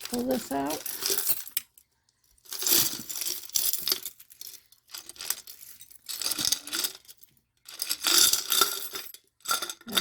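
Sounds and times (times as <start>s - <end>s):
jewelry clinking against glass jar: 0.0s - 10.0s.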